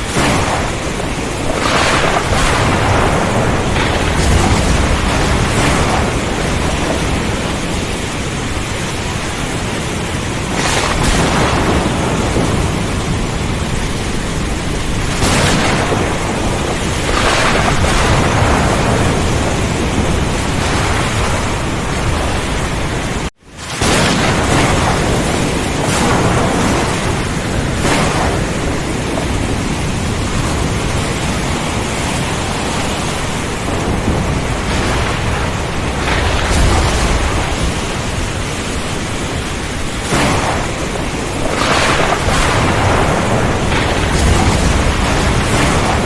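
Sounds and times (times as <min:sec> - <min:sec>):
heavy rain: 0:00.0 - 0:46.0
low rumble of thunder: 0:00.0 - 0:46.0
strong wind: 0:00.0 - 0:46.0.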